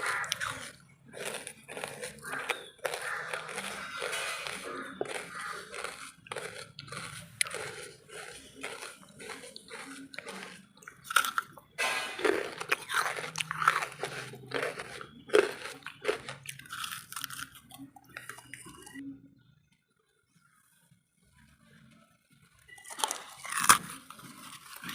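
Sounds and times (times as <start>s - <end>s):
charcoal being chewed: 0.0s - 19.0s, 22.8s - 24.9s.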